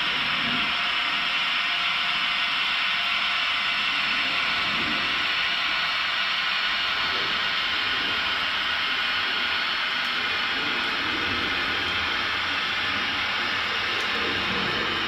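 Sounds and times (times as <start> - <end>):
model train running: 0.0 - 15.0.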